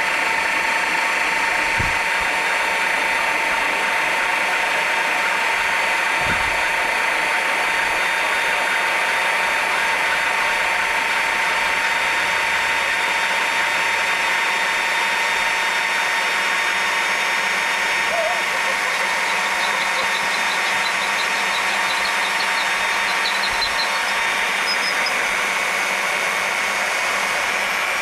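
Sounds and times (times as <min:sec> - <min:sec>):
drill motor whine: 0:00.0 - 0:28.0.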